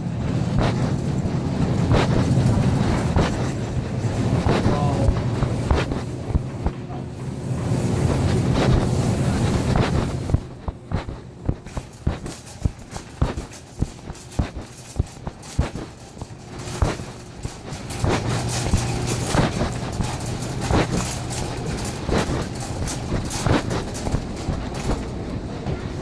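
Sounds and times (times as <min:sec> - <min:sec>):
rumble with low hum: 0:00.0 - 0:25.8.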